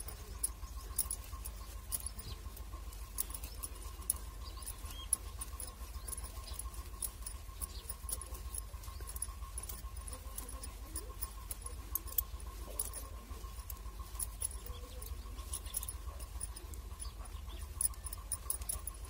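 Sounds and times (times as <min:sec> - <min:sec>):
knitting needles clicking: 0:00.0 - 0:19.0
low steady hum: 0:00.0 - 0:19.0.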